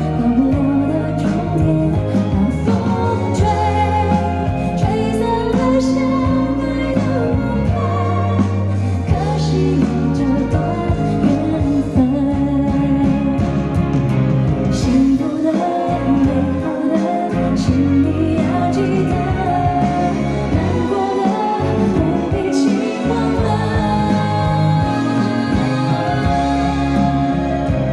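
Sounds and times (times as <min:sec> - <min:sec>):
woman singing: 0:00.0 - 0:13.9, 0:14.7 - 0:27.9
band accompaniment: 0:00.0 - 0:27.9
steady bass line: 0:00.0 - 0:27.9.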